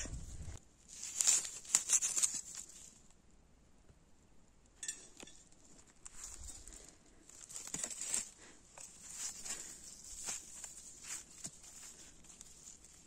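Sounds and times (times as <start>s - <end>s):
dry leaves and grass rustling: 0.0s - 3.2s, 5.2s - 13.0s.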